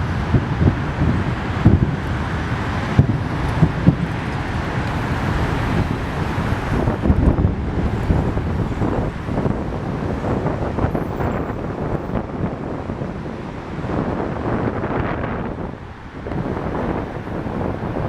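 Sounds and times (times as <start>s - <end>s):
steady rumble: 0.0s - 18.0s
wind buffeting microphone: 0.0s - 18.0s.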